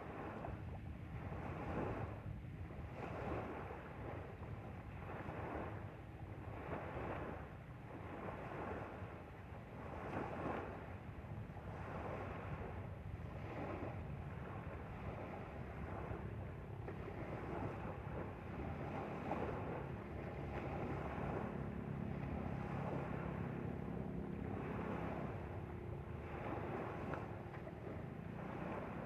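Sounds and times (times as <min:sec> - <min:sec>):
faint engine hum: 0:00.0 - 0:29.0
water along hull: 0:00.0 - 0:29.0
wind on microphone: 0:00.0 - 0:29.0.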